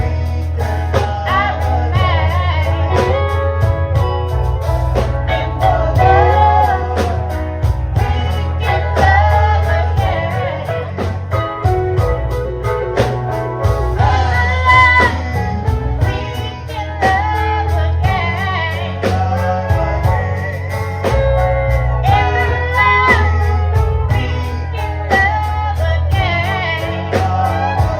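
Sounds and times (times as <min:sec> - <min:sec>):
person singing: 0:00.0 - 0:13.2, 0:14.0 - 0:27.9
gospel band music: 0:00.0 - 0:27.9.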